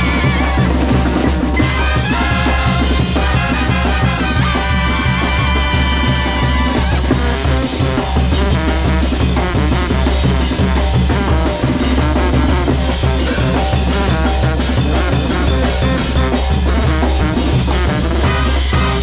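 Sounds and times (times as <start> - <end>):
brass band playing: 0.0 - 19.0
drum and cymbal beat: 0.0 - 19.0.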